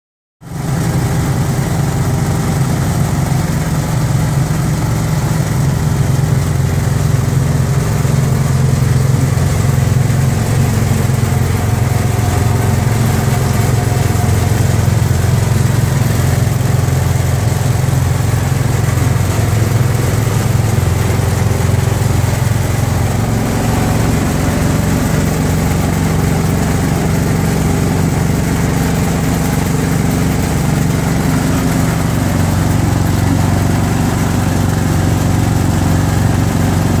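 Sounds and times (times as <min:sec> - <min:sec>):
concrete mixer engine running: 0:00.4 - 0:37.0.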